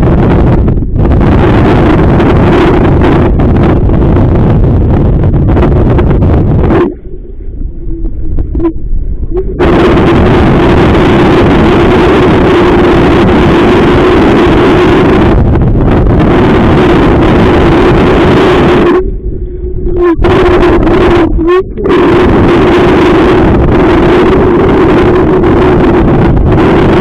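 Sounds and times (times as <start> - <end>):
steady hum: 0.0 - 27.0
strong wind buffeting microphone: 0.0 - 27.0.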